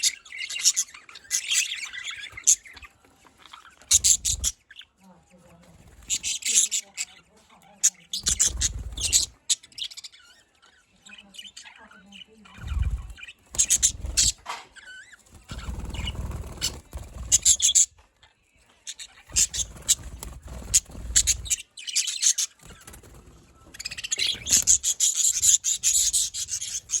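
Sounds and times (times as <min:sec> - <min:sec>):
budgerigars chirping and chattering: 0:00.0 - 0:27.0.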